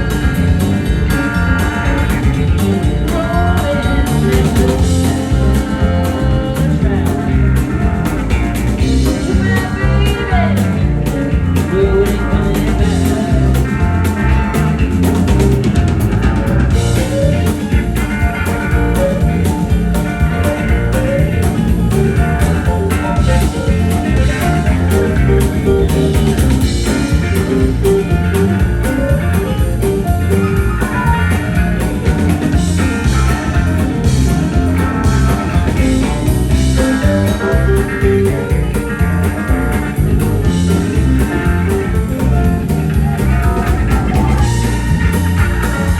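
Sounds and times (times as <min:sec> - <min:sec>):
bass: 0:00.0 - 0:45.9
drum kit beat: 0:00.0 - 0:45.9
electric guitar: 0:00.0 - 0:45.9.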